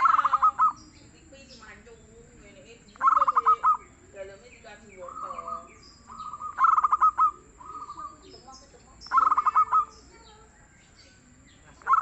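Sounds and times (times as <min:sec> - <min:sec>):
dove cooing: 0:00.0 - 0:12.0
faint high bird chirps: 0:00.0 - 0:12.0.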